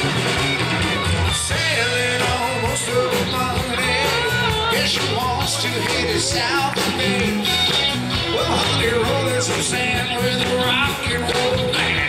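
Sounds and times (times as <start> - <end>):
electric guitar lead: 0.0 - 12.0
rock band playing: 0.0 - 12.0.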